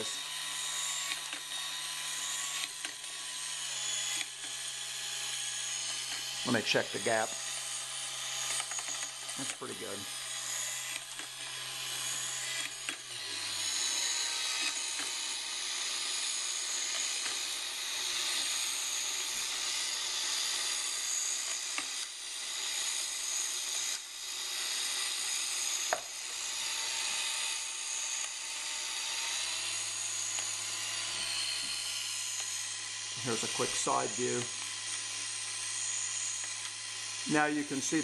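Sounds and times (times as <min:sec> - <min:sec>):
motor-driven mechanism running: 0:00.0 - 0:38.0.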